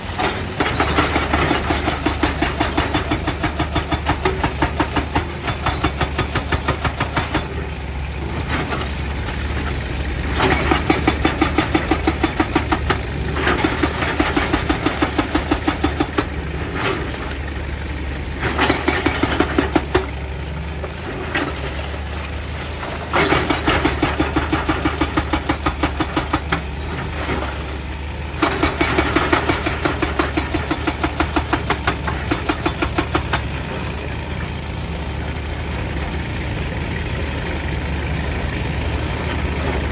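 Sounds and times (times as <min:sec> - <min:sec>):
hydraulic rock breaker hammering: 0:00.0 - 0:34.6
diesel engine running: 0:00.0 - 0:39.9.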